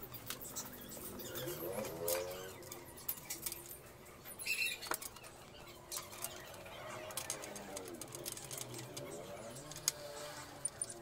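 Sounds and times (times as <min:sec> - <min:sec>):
metallic clicks of screws and brackets: 0:00.1 - 0:10.0.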